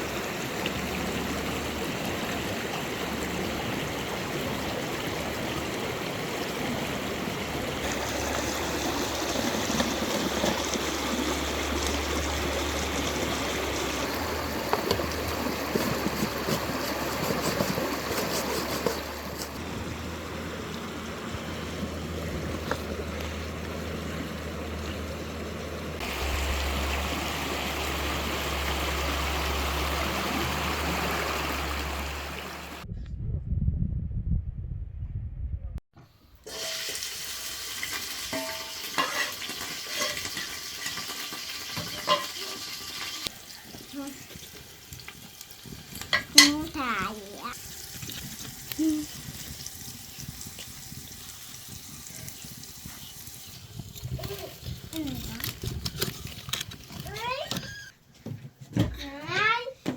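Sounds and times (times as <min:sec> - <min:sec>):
running water rushing: 0:00.0 - 0:32.8, 0:36.5 - 0:57.9.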